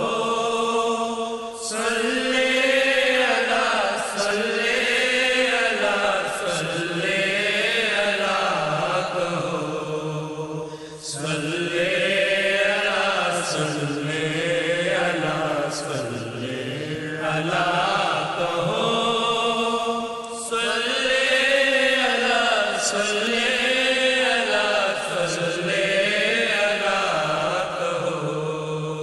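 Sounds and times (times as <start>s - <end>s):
devotional chant singing: 0.0s - 29.0s.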